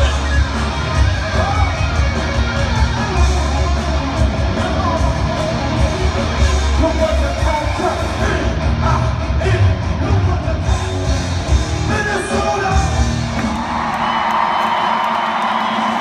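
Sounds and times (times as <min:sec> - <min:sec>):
live rock music with singer: 0:00.0 - 0:16.0.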